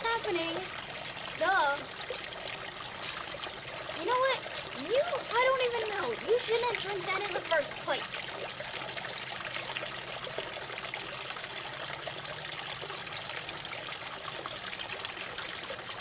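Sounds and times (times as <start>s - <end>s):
small waterfall splashing: 0.0s - 16.0s.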